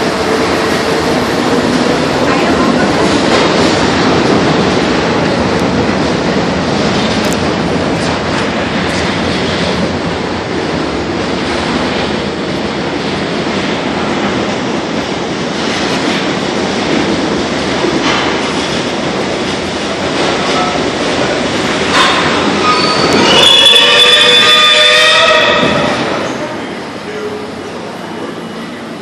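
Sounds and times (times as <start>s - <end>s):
high-pitched train car passing close: 0.0s - 29.0s
subway train wheels rumbling on rails: 0.0s - 29.0s.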